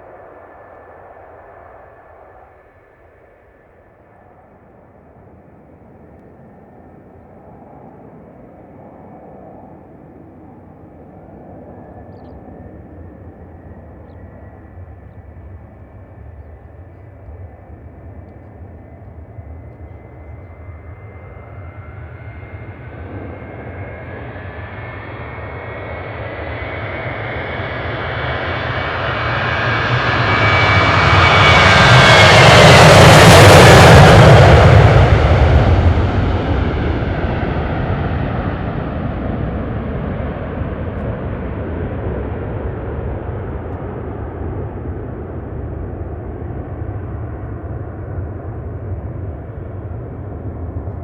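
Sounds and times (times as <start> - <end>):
jet engines passing: 0.0 - 51.0.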